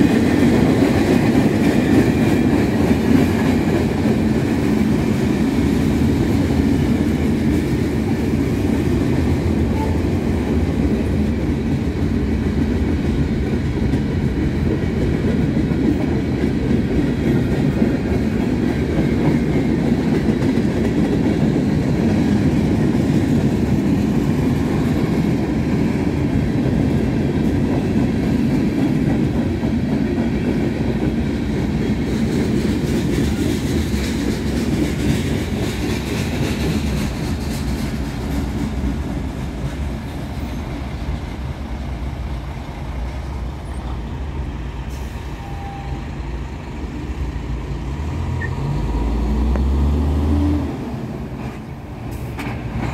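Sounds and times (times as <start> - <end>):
steel wheels rolling on rails: 0.0 - 44.1.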